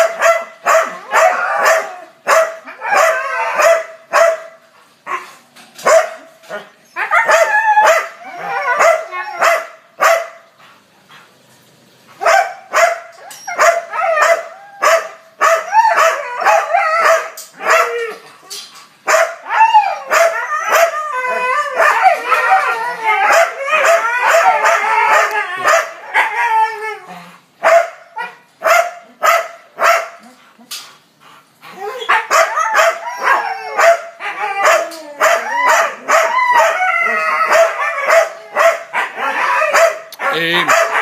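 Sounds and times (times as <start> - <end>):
dogs barking and yipping: 0.0 - 10.4, 12.2 - 30.8, 31.7 - 41.0.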